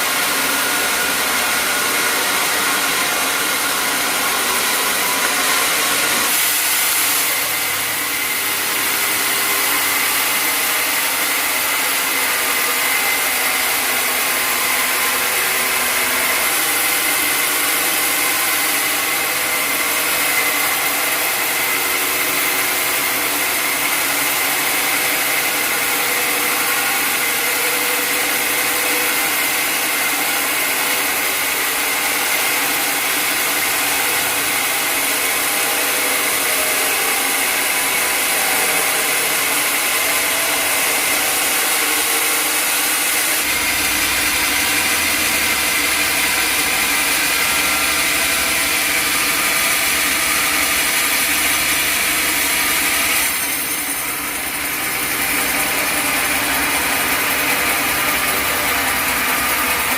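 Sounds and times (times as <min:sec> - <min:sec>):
sawmill machinery running: 0:00.0 - 0:59.9
high mechanical whine: 0:00.1 - 0:59.9.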